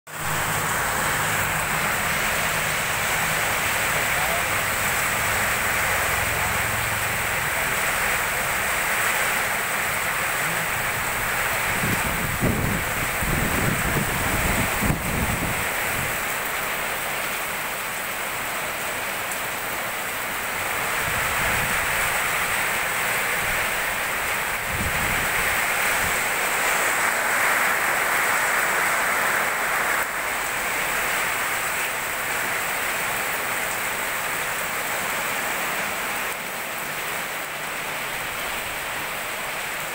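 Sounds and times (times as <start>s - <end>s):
heavy rain on street and roofs: 0.0s - 39.9s.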